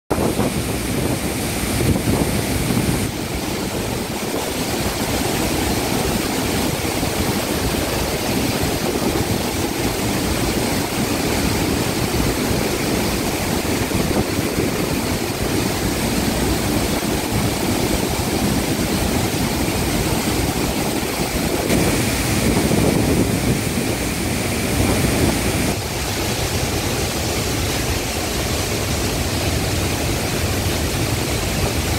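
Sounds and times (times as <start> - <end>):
waterfall roaring: 0.1 - 31.9.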